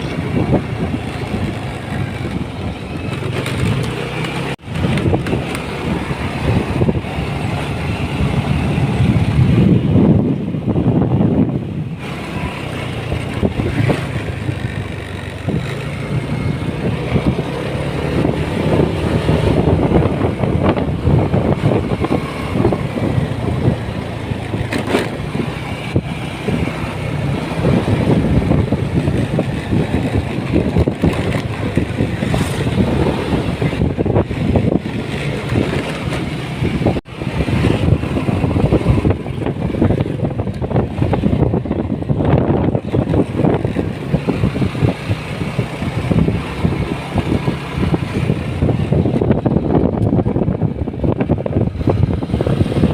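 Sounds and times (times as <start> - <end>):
motorcycle engine running: 0.0 - 52.9
road and wind noise: 0.0 - 52.9.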